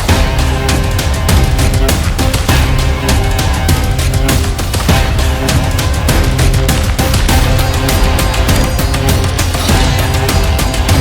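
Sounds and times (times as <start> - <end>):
driving music with rapid percussion: 0.0 - 11.0.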